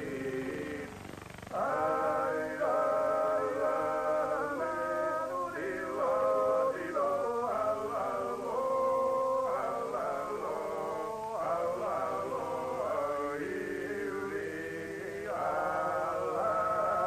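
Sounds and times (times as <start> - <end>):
men singing long held notes: 0.0 - 17.0.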